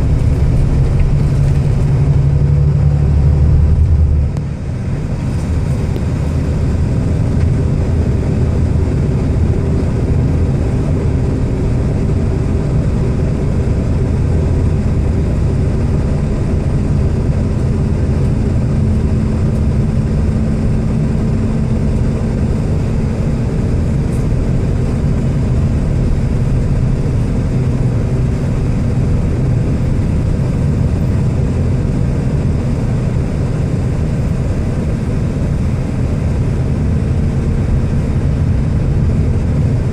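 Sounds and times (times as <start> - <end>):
vehicle road noise rumble: 0.0 - 39.9.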